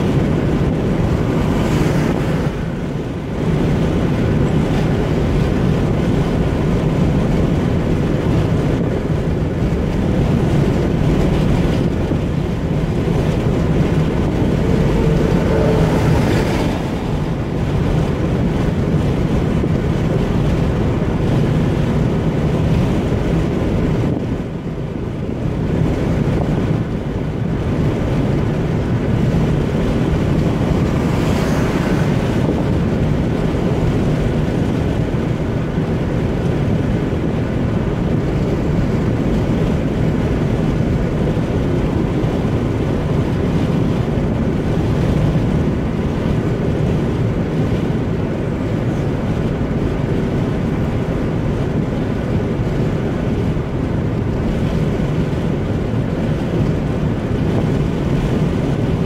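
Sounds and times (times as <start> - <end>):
road and tyre rumble: 0.0 - 59.0
wind noise in car cabin: 0.0 - 59.0.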